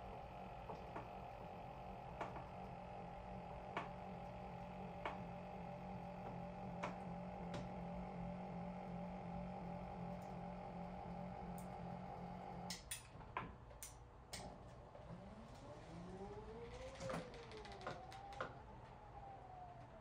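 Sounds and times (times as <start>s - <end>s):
stepper motors humming and whining: 0.0s - 12.9s, 14.4s - 20.0s.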